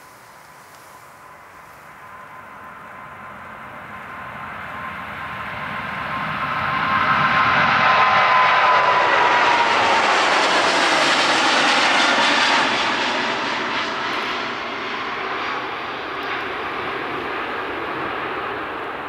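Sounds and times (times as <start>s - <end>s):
jet engines at take-off: 0.0s - 19.0s.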